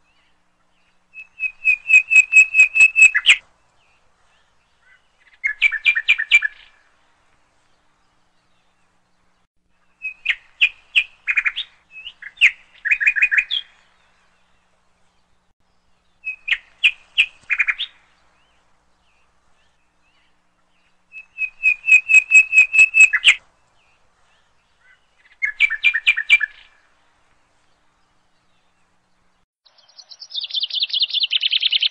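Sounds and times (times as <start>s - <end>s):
small bird chirping: 0.0s - 6.8s, 7.7s - 14.6s, 15.3s - 26.8s, 27.7s - 31.9s.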